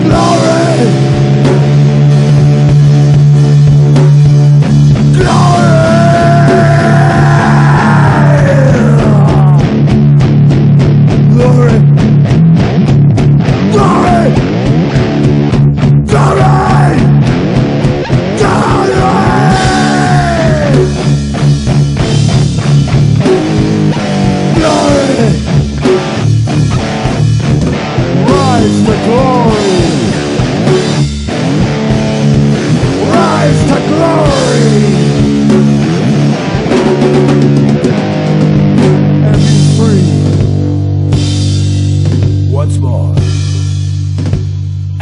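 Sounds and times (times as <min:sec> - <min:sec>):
bending electric guitar lead: 0:00.0 - 0:45.0
rock music: 0:00.0 - 0:45.0.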